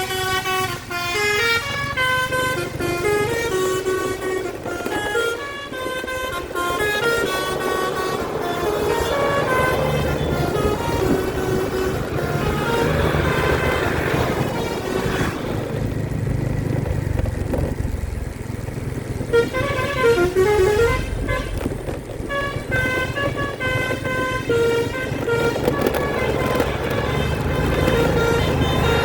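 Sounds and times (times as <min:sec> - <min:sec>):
bus horn playing a tune: 0:00.0 - 0:15.9, 0:19.2 - 0:29.0
bus engine rumble: 0:00.0 - 0:29.0
road noise: 0:00.0 - 0:29.0.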